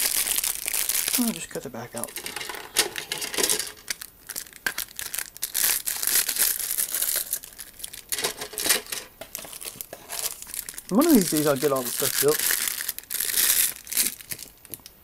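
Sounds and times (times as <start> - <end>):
plastic bags crinkling: 0.0 - 14.9.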